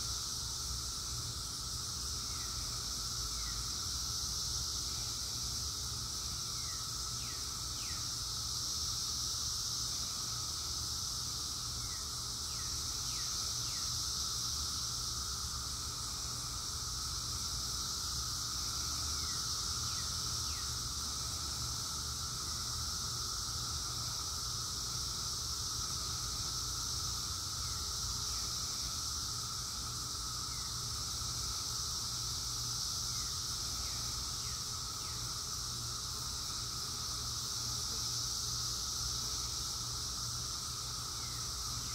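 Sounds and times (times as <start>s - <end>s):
cicadas droning: 0.0s - 41.9s.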